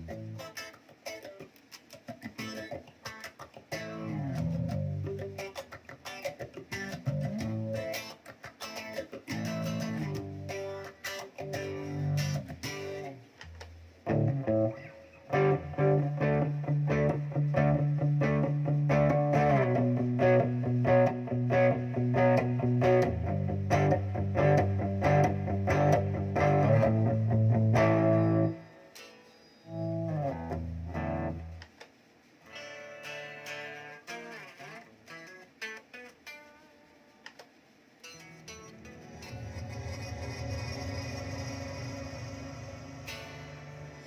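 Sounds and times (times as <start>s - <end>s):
electric guitar riff: 0.0s - 31.8s, 32.4s - 37.4s, 38.0s - 44.0s.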